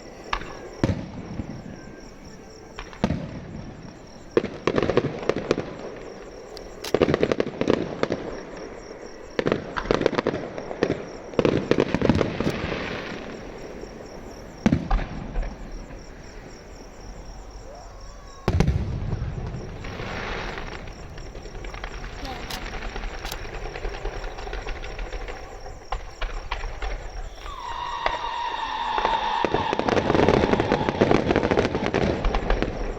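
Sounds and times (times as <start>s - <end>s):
fireworks banging: 0.0s - 17.8s, 18.4s - 32.9s
hissing crackle: 0.0s - 32.9s.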